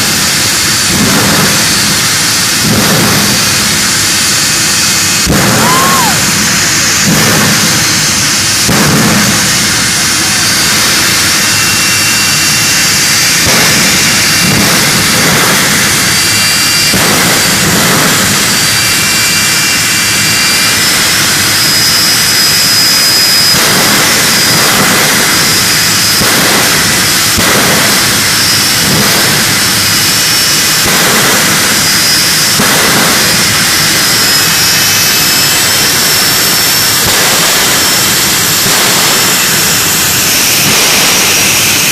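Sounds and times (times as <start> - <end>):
jet engine running with high whine: 0.0 - 41.9.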